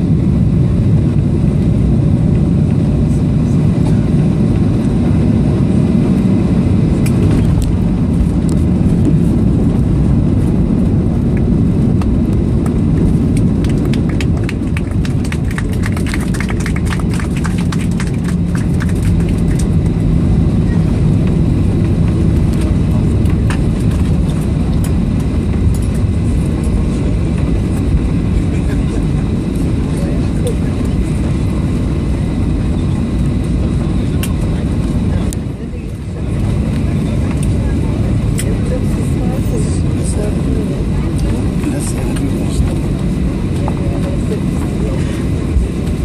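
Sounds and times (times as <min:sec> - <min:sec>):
plane engines and wheels rumbling: 0:00.0 - 0:46.0.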